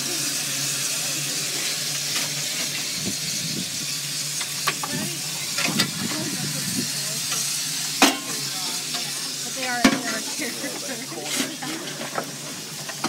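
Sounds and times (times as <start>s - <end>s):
steam engine hissing steam: 0.0s - 13.0s.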